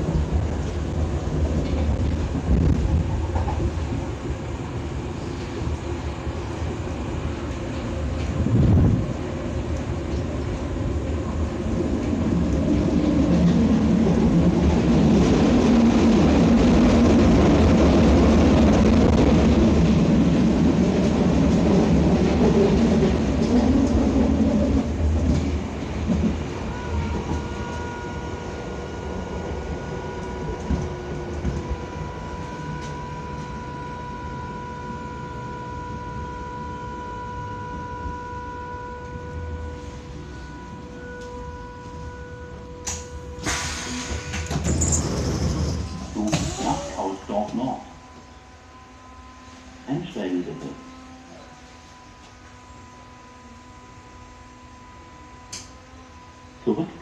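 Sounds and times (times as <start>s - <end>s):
steady whine tones: 0.0s - 57.0s
train wheel and motor noise: 0.0s - 57.0s.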